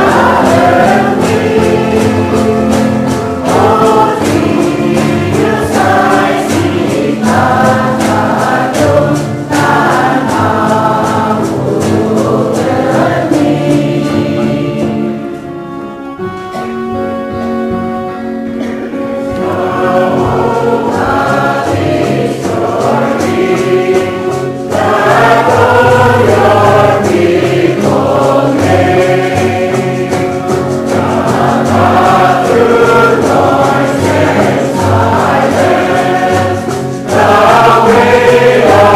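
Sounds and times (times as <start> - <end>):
choir singing gospel song: 0.0 - 16.9, 18.6 - 38.9.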